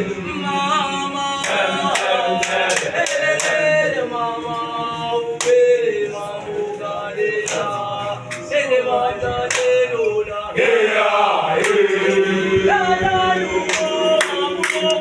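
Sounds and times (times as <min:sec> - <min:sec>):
young voices singing in harmony: 0:00.0 - 0:15.0.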